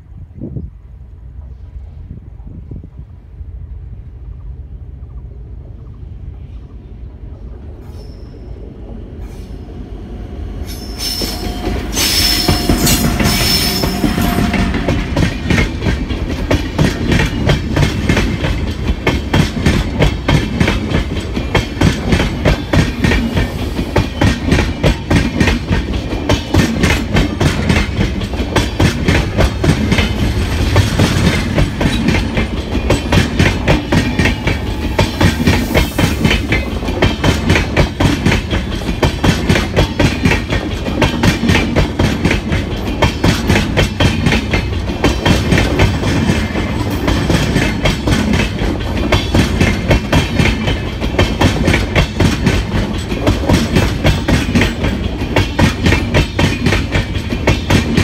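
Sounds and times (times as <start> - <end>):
electric locomotive passing: 0.0 - 58.0
train wheels clattering over rail joints: 10.8 - 58.0.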